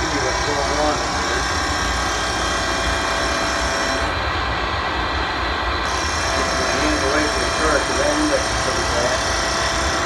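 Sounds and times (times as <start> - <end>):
lathe cutting metal: 0.0 - 4.4, 5.8 - 10.0.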